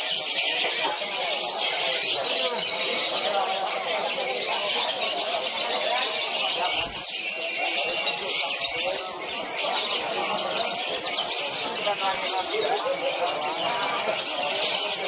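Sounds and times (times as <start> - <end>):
lovebirds chattering shrilly: 0.0 - 15.0.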